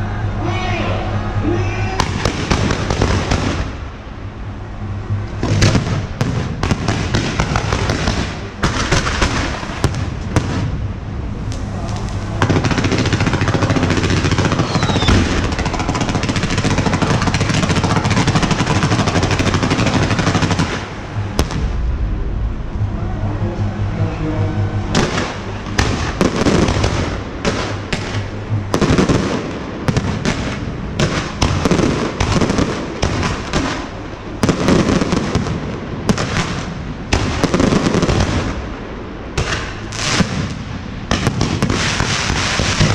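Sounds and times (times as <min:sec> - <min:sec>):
firecrackers crackling: 0:01.8 - 0:04.6, 0:05.2 - 0:22.3, 0:24.8 - 0:42.9.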